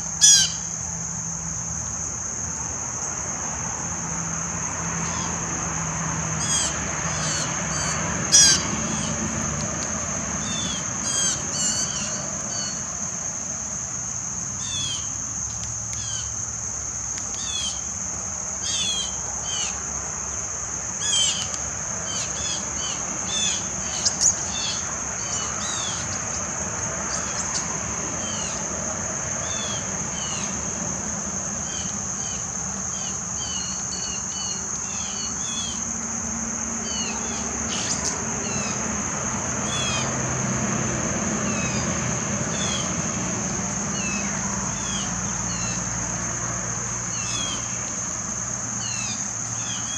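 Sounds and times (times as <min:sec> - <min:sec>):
insect chorus: 0:00.0 - 0:49.9.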